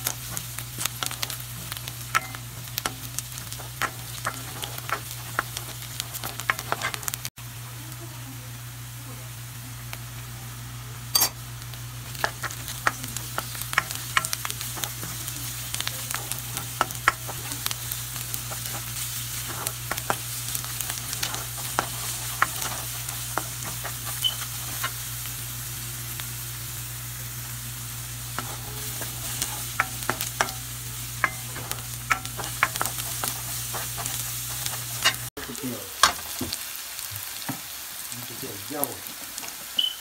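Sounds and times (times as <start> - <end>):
onions sizzling in a pan: 0.0 - 40.0.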